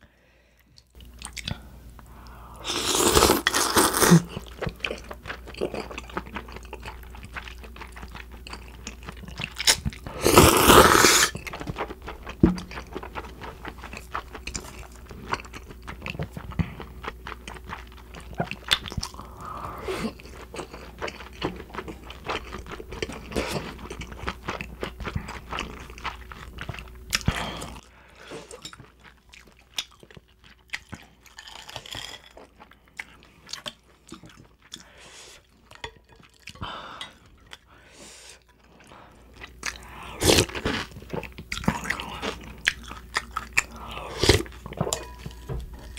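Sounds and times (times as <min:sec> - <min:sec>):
chewing and slurping noodles: 0:02.6 - 0:45.9.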